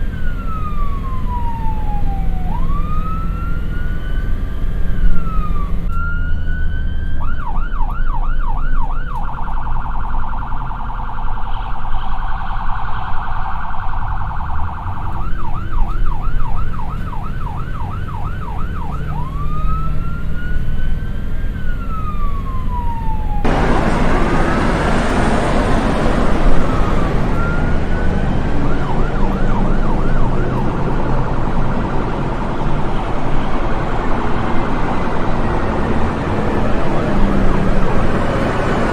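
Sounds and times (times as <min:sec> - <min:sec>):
emergency vehicle siren: 0:00.0 - 0:38.9
traffic and engine noise: 0:00.0 - 0:38.9.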